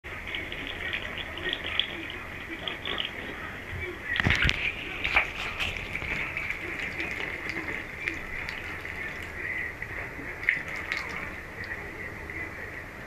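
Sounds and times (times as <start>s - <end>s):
water drips and splashes: 0.1s - 3.3s, 4.2s - 12.4s
tap water running into basin: 0.1s - 12.5s.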